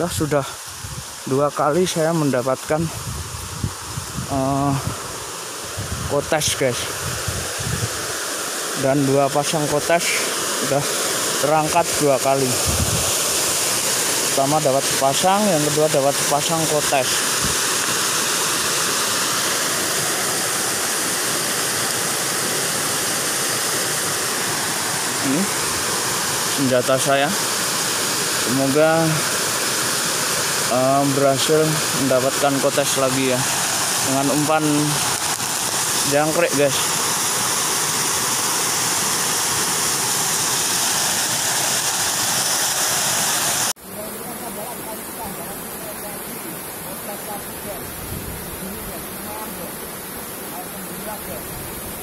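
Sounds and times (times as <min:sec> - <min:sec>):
river water rushing over weir: 0:04.9 - 0:52.0.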